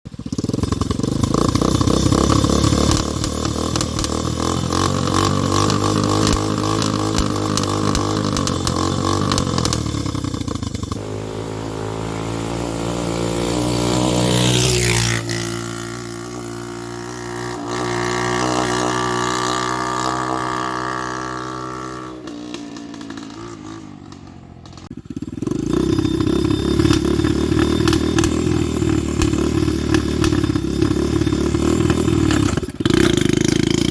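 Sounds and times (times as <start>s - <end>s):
quad engine running: 0.1s - 33.9s.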